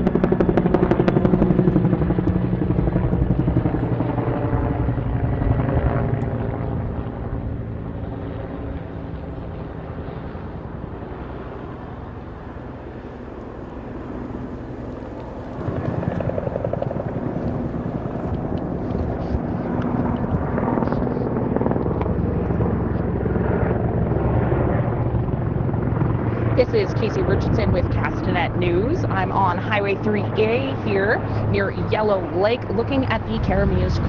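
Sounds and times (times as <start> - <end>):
helicopter rotor and engine: 0.0 - 34.0.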